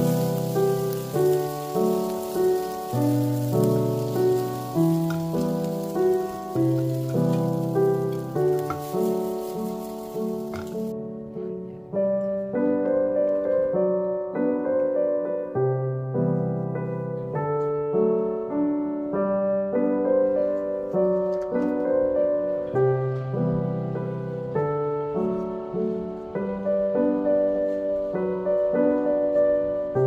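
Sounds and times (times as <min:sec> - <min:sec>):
background piano music: 0:00.0 - 0:30.0.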